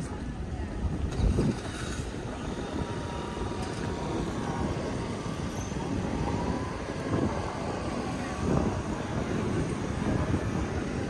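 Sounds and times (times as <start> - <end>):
faint street ambience: 0.0 - 11.0.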